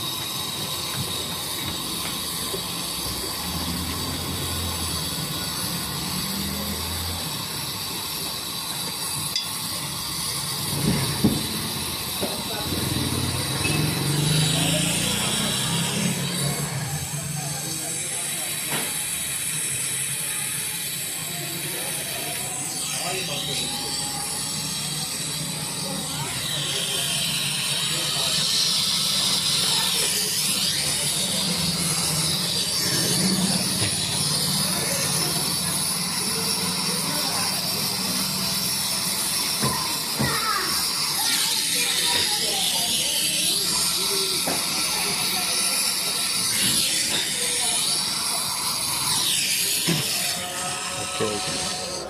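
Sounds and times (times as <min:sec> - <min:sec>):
gas hissing: 0:00.0 - 0:52.0.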